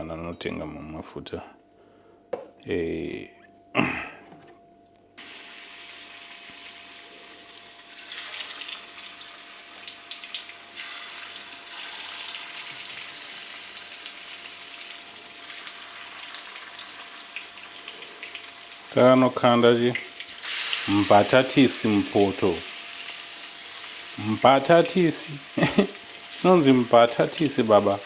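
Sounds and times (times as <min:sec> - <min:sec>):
potato wedges sizzling in oil: 0:05.2 - 0:28.0.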